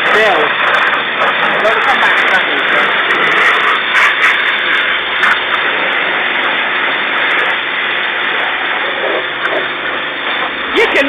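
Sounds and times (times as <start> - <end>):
high pressure water spray hissing: 0.0 - 11.0.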